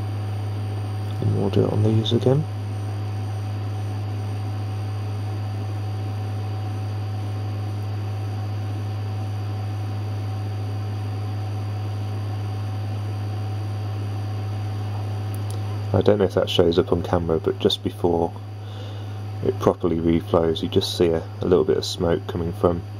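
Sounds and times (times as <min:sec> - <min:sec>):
constant low hum: 0:00.0 - 0:22.9.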